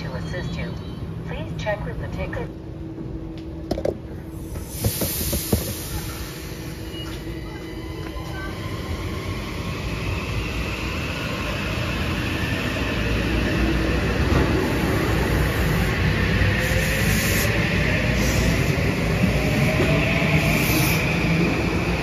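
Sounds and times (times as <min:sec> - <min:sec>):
train wheels rumbling on rail: 0:03.2 - 0:22.0.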